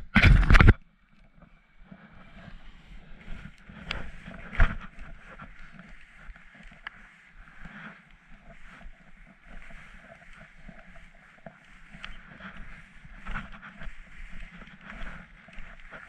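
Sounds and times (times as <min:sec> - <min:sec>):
skis scraping through snow: 0:01.9 - 0:16.0
rubbing against camera: 0:02.2 - 0:16.0.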